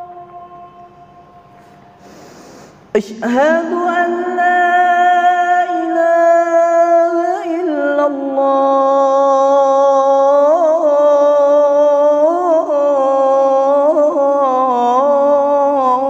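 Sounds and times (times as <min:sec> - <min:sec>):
man singing call to prayer: 0:00.0 - 0:01.2, 0:02.9 - 0:16.0.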